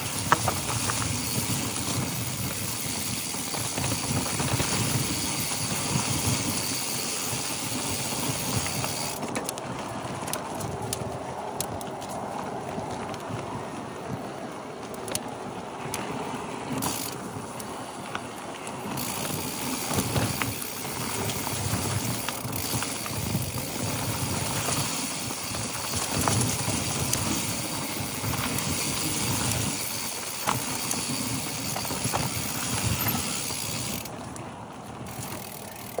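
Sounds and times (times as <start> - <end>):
bike chain rattling and clicking: 0.0 - 12.2, 16.7 - 17.7, 18.8 - 34.2, 35.0 - 36.0
bike tyres crunching over stones: 0.0 - 15.2, 15.8 - 34.4, 35.0 - 36.0.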